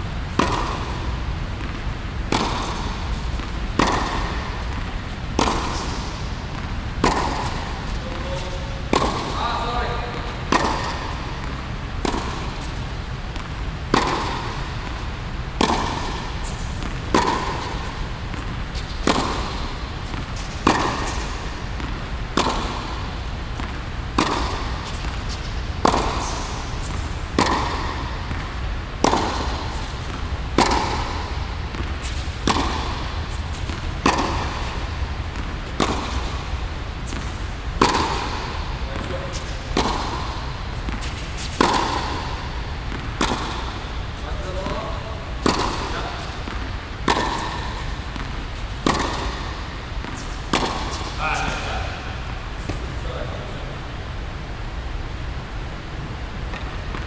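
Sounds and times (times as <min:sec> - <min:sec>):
steady low hum: 0:00.0 - 0:57.0
tennis ball struck by racket: 0:00.3 - 0:53.0
tennis ball bouncing on hard court: 0:00.3 - 0:53.7, 0:56.4 - 0:57.0.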